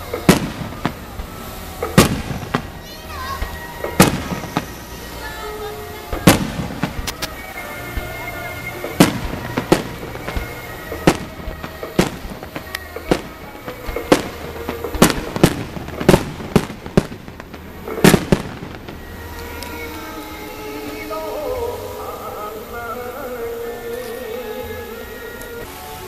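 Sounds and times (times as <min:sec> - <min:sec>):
fireworks bursting with sharp bangs: 0:00.0 - 0:26.0.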